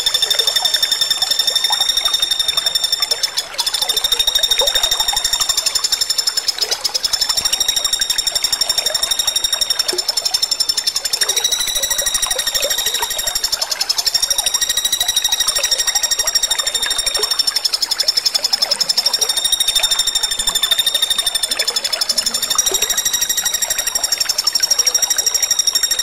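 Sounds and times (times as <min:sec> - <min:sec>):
woodpecker rattling call: 0:00.0 - 0:26.0.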